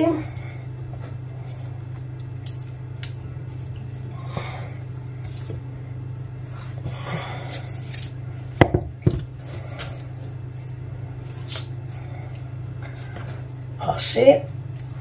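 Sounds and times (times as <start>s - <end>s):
steady low hum: 0.0s - 15.0s
raw meat squishing: 0.3s - 8.3s, 9.2s - 13.7s.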